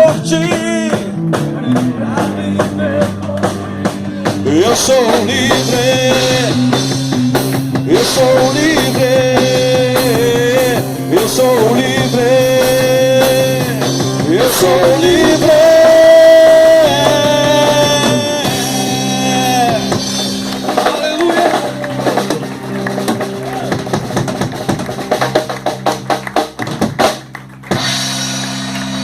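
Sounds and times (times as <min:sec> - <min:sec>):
drum hits and cymbals: 0:00.0 - 0:29.0
live band playing: 0:00.0 - 0:29.0.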